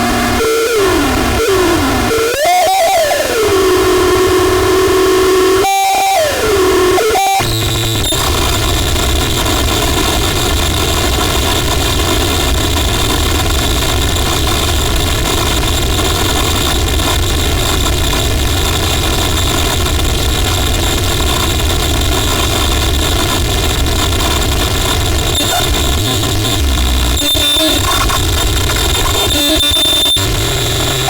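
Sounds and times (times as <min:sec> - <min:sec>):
distorted electronic noise: 0:00.0 - 0:31.0.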